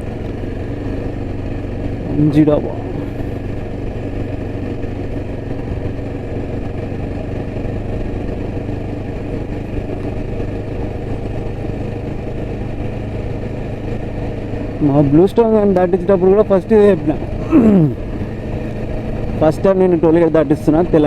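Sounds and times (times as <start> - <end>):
motorcycle engine running steadily: 0.0 - 21.0.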